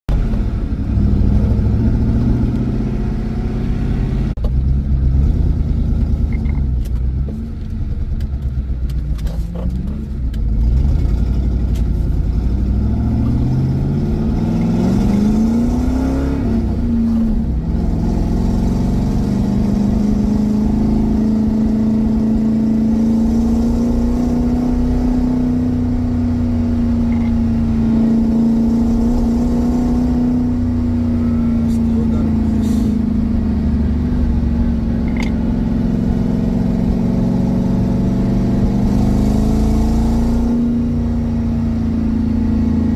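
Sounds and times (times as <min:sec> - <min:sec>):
car engine revving and cruising: 0:00.1 - 0:42.9.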